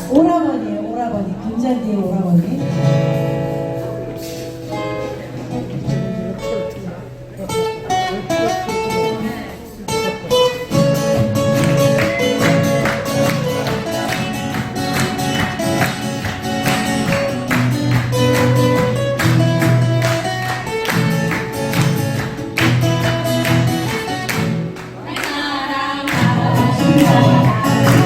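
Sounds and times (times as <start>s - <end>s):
acoustic guitars playing: 0.0s - 28.0s.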